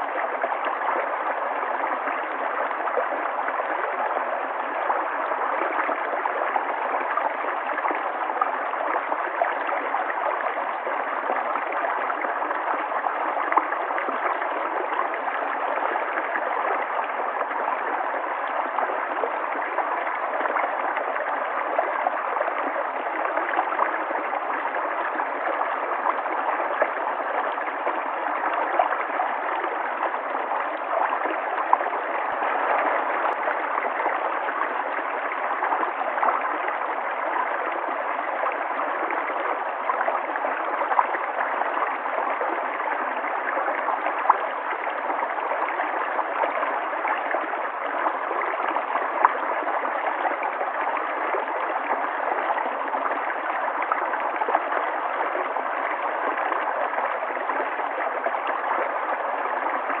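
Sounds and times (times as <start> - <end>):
river flowing over rocks: 0.0 - 60.0.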